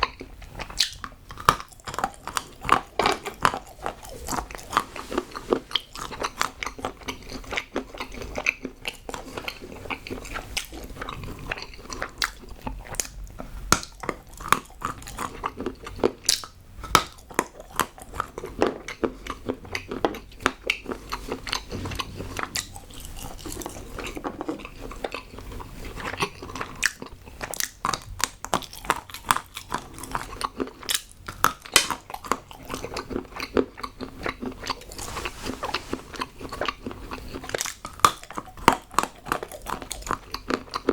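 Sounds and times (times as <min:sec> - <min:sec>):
chewing hard chocolate: 0:00.0 - 0:40.9.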